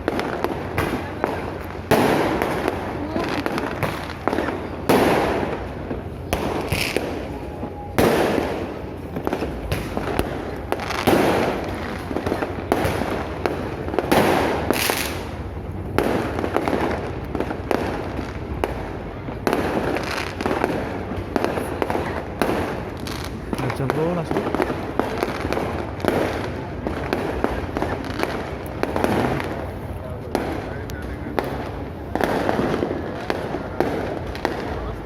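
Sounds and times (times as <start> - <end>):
firework crackling: 0.0 - 35.0.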